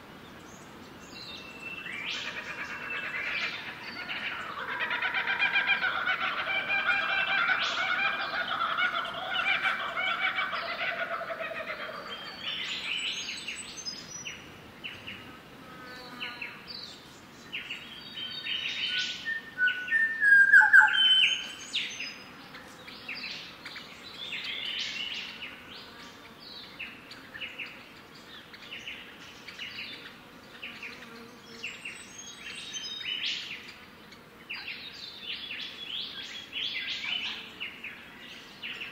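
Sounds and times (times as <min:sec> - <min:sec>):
wild birds calling and chirping: 0:00.3 - 0:38.9.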